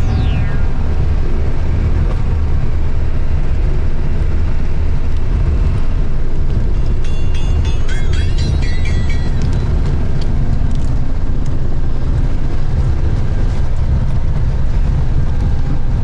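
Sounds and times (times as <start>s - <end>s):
vehicle driving rumble: 0.0s - 16.0s.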